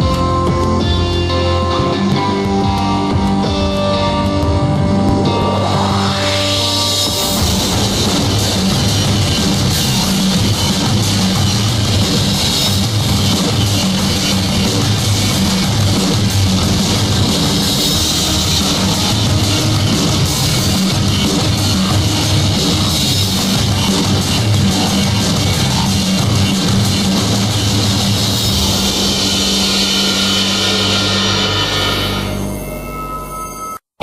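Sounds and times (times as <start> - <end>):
rock music with drums: 0.0 - 32.4.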